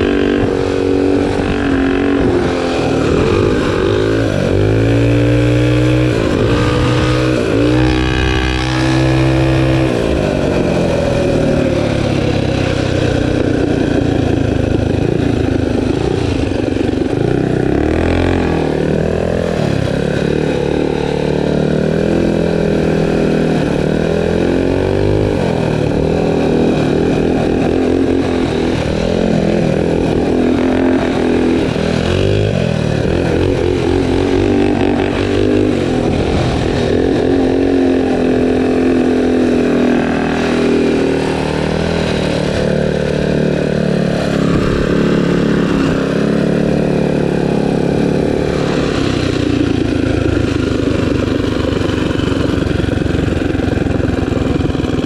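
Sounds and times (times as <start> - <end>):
small motorbike engine revving: 0.0 - 55.0.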